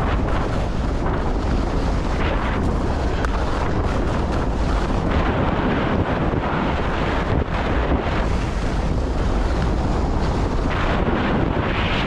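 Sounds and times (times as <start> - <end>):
ski edges scraping: 0.0 - 6.1, 7.1 - 10.9
skis sliding on snow: 0.0 - 12.0
wind buffeting microphone: 0.0 - 12.0.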